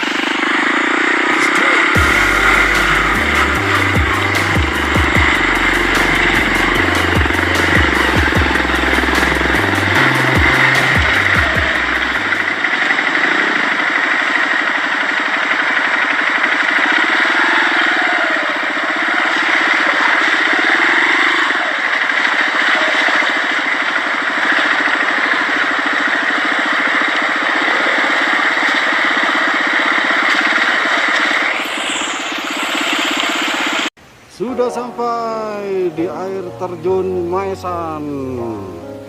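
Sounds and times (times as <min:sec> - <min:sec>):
motorcycle engine running: 0:00.0 - 0:33.9
rushing noise: 0:00.0 - 0:35.8.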